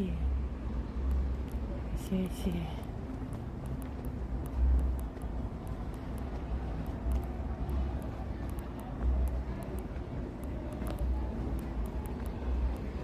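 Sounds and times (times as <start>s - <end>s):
steady traffic noise: 0.0s - 13.0s.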